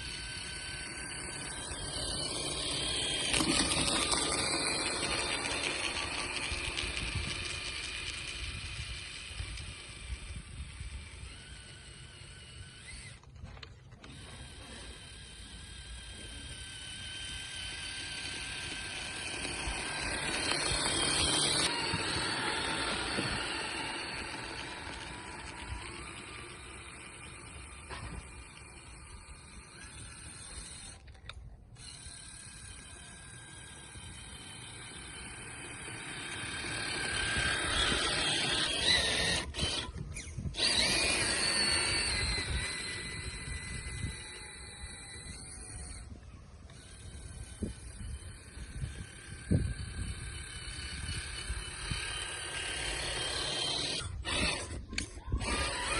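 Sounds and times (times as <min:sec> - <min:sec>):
rc truck motor whine: 0:00.0 - 0:55.9.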